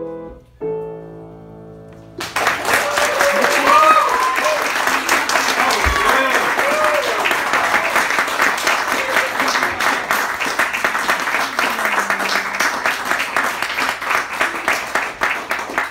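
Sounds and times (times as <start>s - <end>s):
audience applauding: 2.2s - 15.9s.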